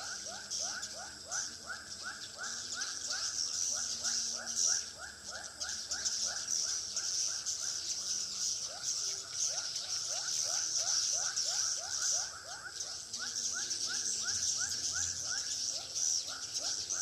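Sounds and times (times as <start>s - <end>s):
birds chirping: 0.0s - 17.0s
high twittering hiss: 0.0s - 17.0s.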